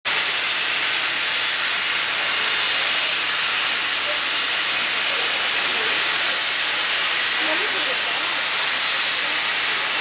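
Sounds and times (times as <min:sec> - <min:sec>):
steam locomotive hissing: 0:00.1 - 0:10.0.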